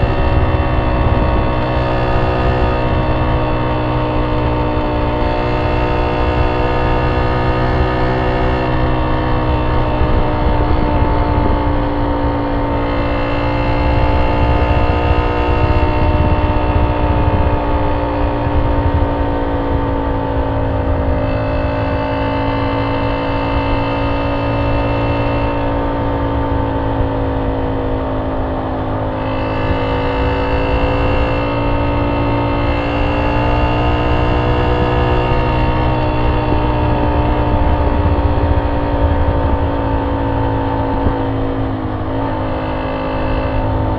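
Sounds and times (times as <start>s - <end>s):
motorcycle engine cruising: 0.0s - 43.9s
wind rumble on microphone: 0.0s - 43.9s.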